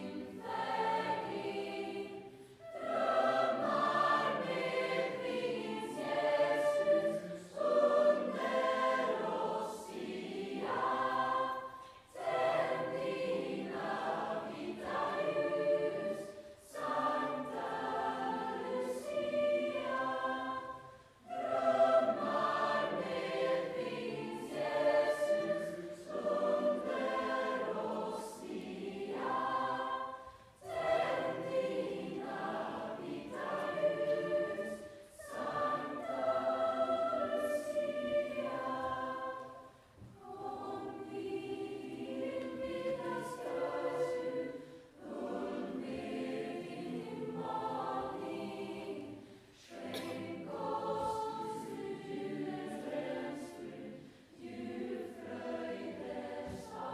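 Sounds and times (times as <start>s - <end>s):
large choir singing: 0.0s - 56.9s.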